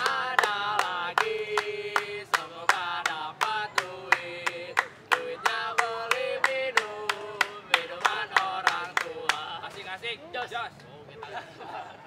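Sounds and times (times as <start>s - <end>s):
hands clapping: 0.0s - 9.9s
young men singing a chant: 0.0s - 10.1s.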